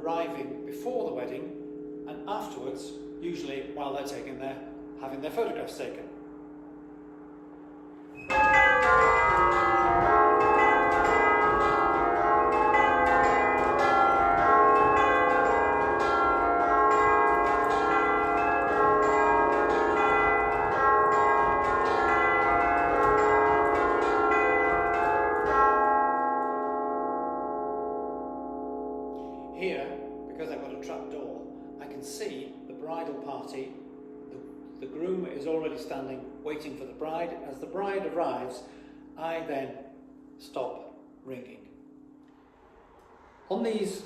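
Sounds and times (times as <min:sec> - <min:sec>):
tubular church bells chiming: 0:00.0 - 0:44.0.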